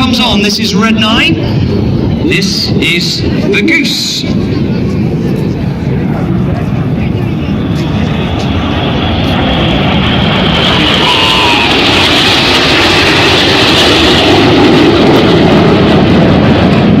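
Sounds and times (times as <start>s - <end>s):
jet roar passing: 0.0s - 17.0s.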